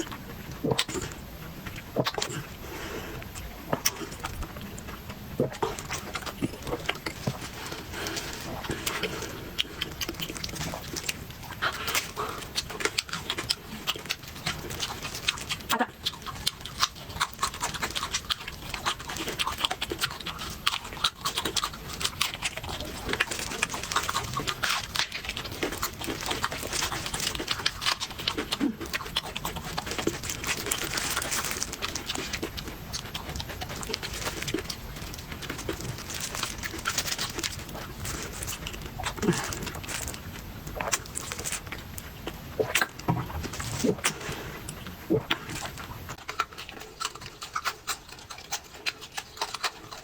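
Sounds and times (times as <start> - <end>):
crunchy chewing of fried food: 0.0 - 50.0.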